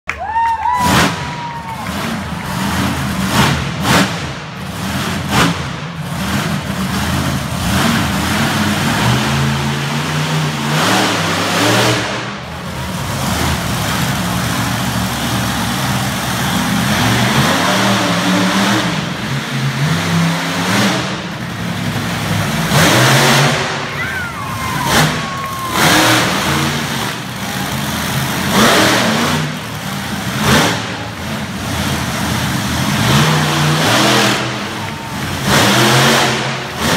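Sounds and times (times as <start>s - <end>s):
monster truck engine revving: 0.4s - 36.9s.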